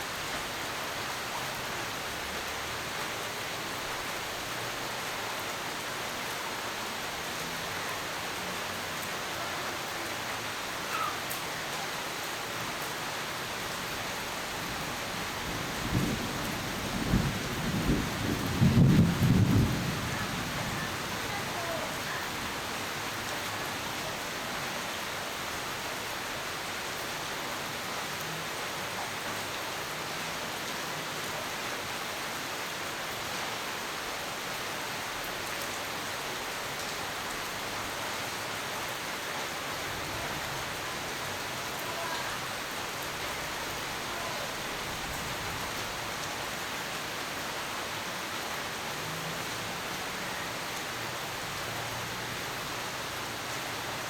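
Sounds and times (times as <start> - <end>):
dense rainfall hiss: 0.0 - 54.0.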